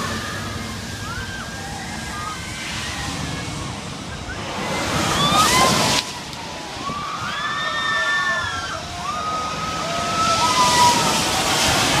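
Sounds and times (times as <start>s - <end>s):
riders screaming: 0.0s - 12.0s
wind and ride noise: 0.0s - 12.0s.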